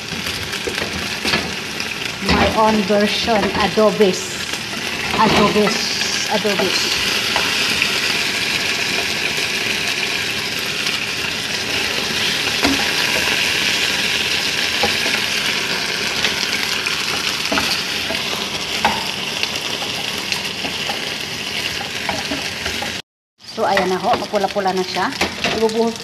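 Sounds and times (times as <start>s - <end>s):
chicken sizzling in a frying pan: 0.0s - 26.0s.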